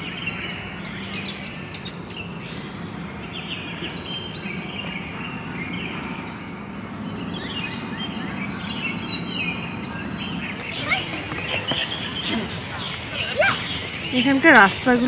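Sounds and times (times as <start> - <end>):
birds chirping: 0.0 - 15.0
low steady background hum: 0.0 - 15.0.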